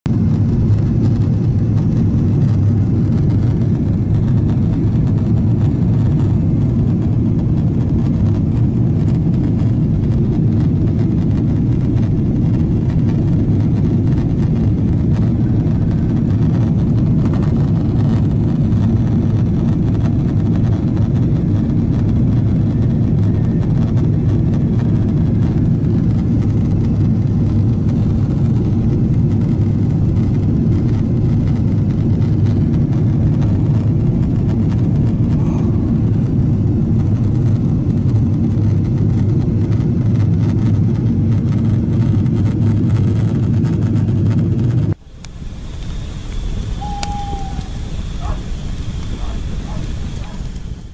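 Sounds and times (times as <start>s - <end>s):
airliner cabin engine rumble: 0.1s - 50.9s.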